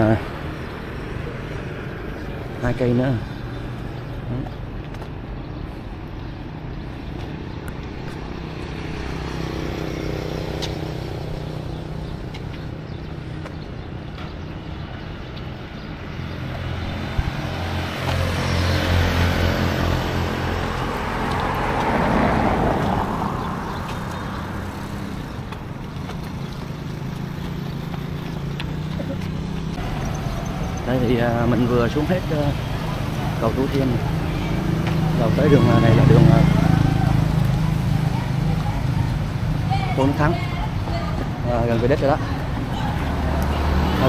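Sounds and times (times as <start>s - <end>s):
vehicle passing: 5.6s - 44.0s.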